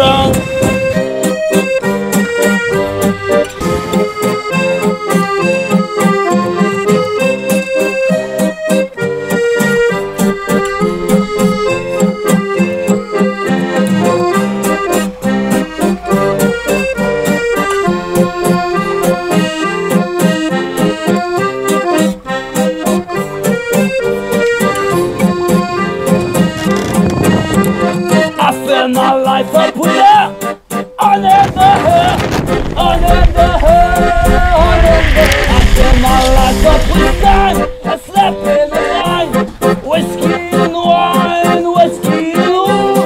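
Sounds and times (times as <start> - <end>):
button accordion playing chords: 0.0 - 43.0
strummed acoustic guitar: 0.0 - 43.0.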